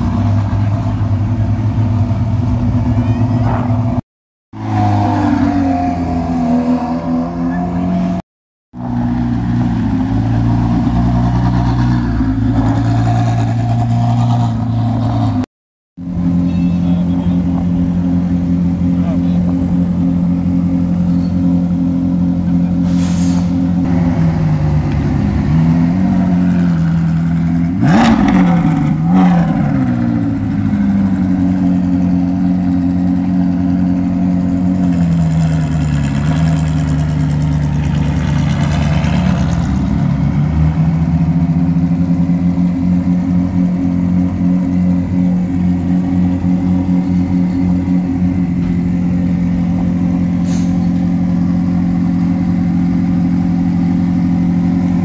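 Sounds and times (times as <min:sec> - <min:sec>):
race car engine idling and revving: 0:00.0 - 0:55.0.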